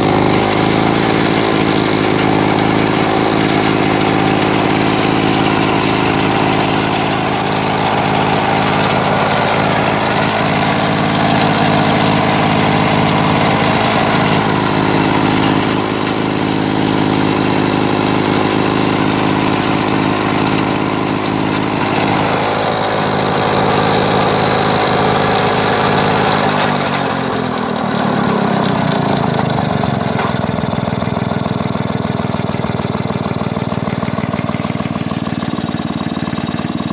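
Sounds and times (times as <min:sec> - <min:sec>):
reel mower two-stroke engine running: 0:00.0 - 0:36.9.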